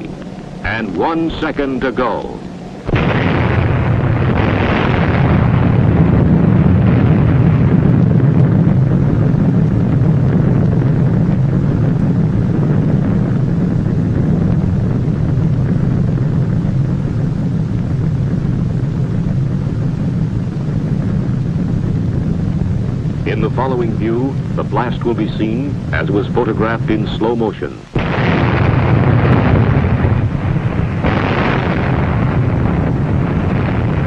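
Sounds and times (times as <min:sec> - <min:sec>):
explosion rush: 0:00.0 - 0:34.0
low rumble: 0:00.0 - 0:34.0.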